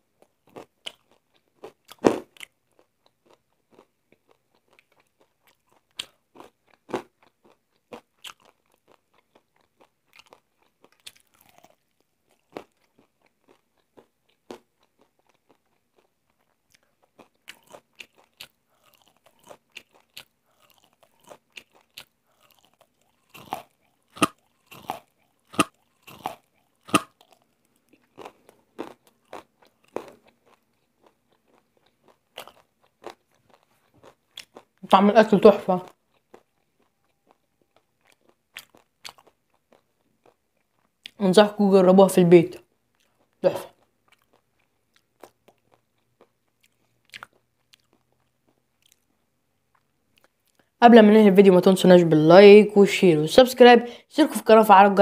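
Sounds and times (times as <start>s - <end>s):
crunchy fried chicken chewing: 0.2s - 34.9s, 35.8s - 41.2s, 42.6s - 50.8s.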